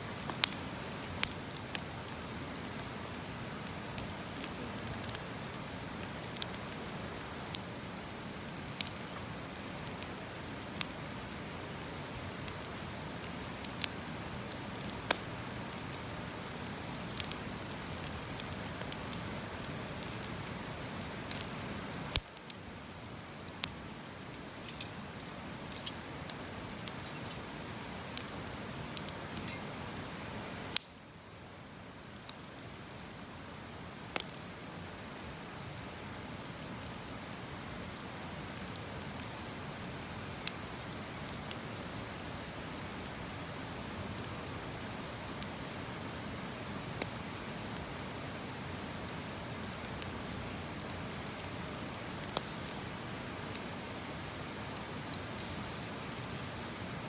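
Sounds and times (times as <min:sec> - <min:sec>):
campfire crackling and popping: 0:00.0 - 0:57.0
low fire hiss: 0:00.0 - 0:57.0.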